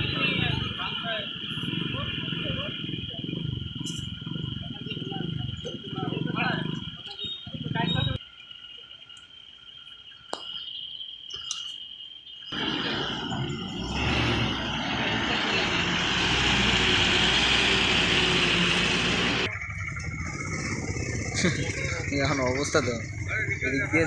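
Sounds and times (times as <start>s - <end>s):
truck engine rumbling: 0.0s - 8.2s, 12.5s - 24.0s.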